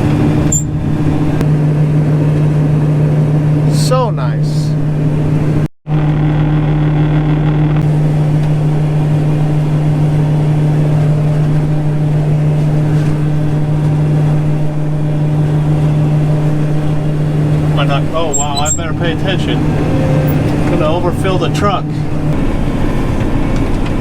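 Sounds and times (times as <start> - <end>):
combine harvester drone: 0.0 - 24.0
deep rumble: 0.0 - 24.0.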